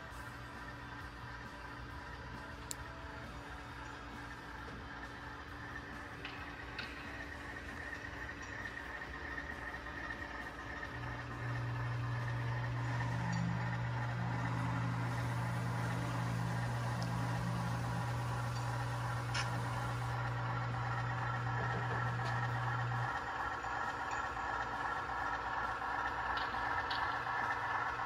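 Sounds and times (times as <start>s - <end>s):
model locomotive engine hum: 0.0s - 28.0s.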